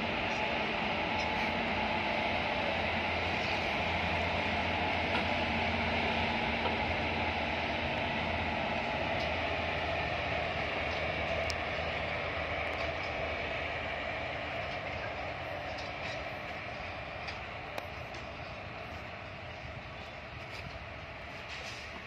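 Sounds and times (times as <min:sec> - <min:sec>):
electric locomotive hum: 0:00.0 - 0:22.0
wheels rumbling on rails: 0:00.0 - 0:22.0.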